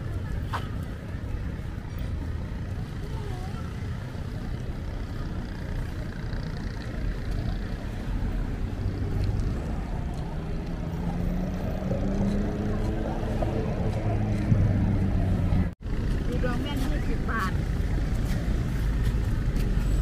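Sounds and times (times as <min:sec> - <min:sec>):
traffic rumble: 0:00.0 - 0:20.0
vehicle engine hum: 0:00.0 - 0:20.0.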